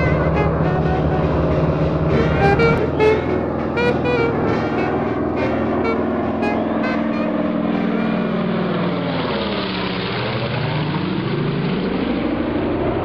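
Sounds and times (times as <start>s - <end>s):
propeller plane engines droning: 0.0s - 13.0s.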